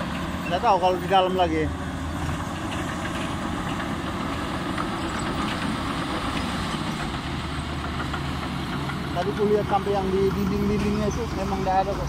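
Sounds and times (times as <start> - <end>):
bulldozer diesel engine running: 0.0 - 12.0
steel tracks clanking: 0.0 - 12.0.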